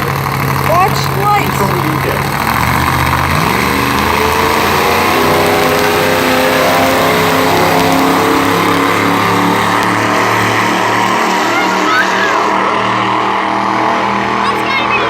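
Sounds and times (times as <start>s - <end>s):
dragster engine accelerating: 0.0s - 15.0s.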